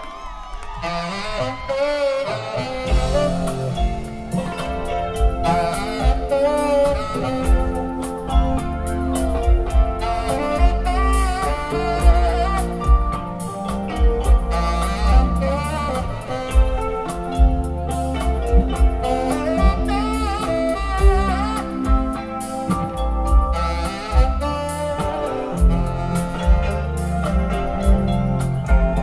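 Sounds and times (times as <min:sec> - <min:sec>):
electric guitar: 0:00.0 - 0:29.0
saxophone solo: 0:00.0 - 0:29.0
bass guitar: 0:00.7 - 0:29.0
drum kit beat: 0:01.7 - 0:29.0.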